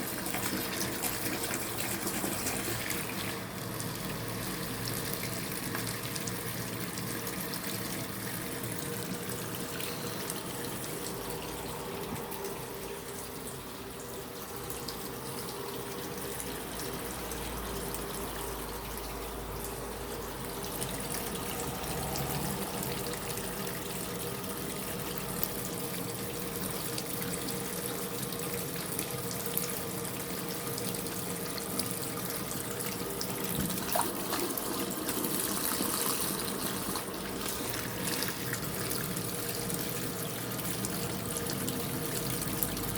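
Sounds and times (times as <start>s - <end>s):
tap water running into sink: 0.0s - 42.9s.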